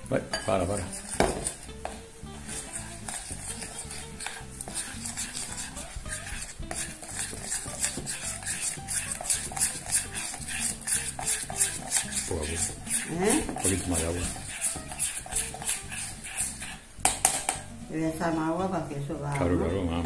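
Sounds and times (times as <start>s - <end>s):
metal spoon scraping glass bowl: 0.2s - 17.7s.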